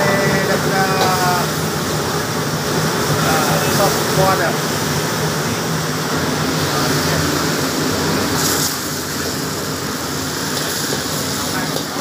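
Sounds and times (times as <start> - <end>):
gas burners roaring: 0.0 - 12.0.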